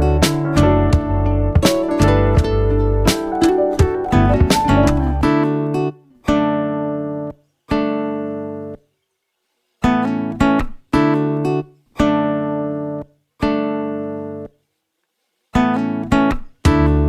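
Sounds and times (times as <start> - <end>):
guitar chords ringing: 0.0 - 8.8, 9.8 - 14.5, 15.6 - 17.0.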